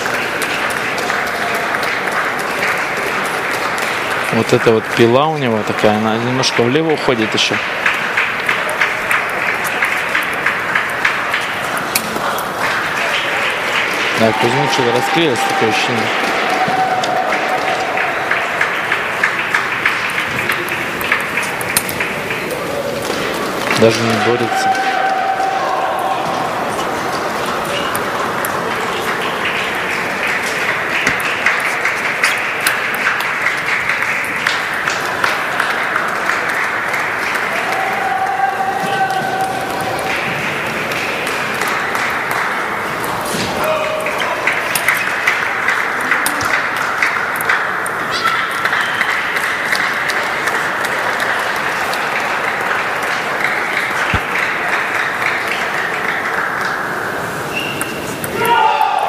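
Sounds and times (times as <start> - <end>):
crowd applauding: 0.0 - 59.0
spectators clapping: 0.0 - 59.0.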